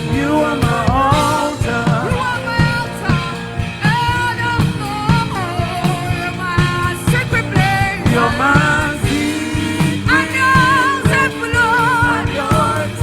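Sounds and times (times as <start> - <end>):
band instrumental backing: 0.0 - 13.0
choir singing gospel song: 0.0 - 13.0.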